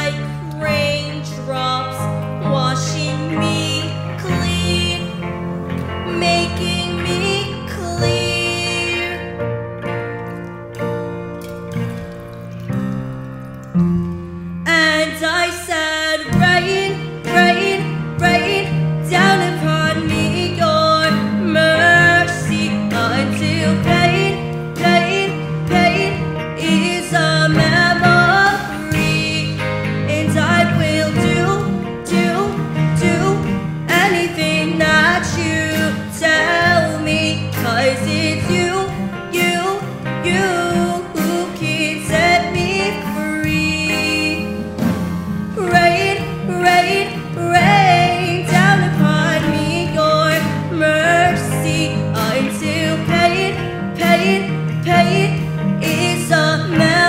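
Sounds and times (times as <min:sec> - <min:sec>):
guitar accompaniment: 0:00.0 - 0:57.0.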